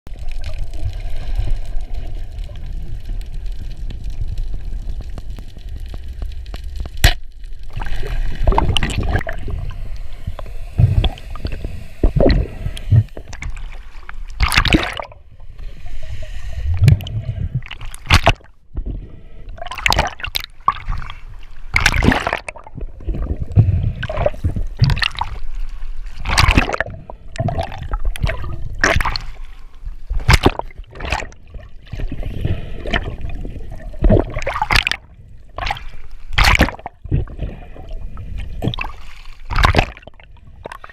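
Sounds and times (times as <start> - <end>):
low water rumble: 0.1 - 40.9
water sloshing and gurgling: 0.1 - 40.9
water splashes and surges: 0.1 - 40.9.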